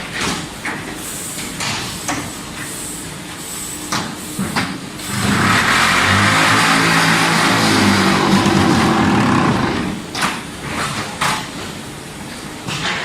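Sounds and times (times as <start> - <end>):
machine humming and rattling: 0.0 - 13.0.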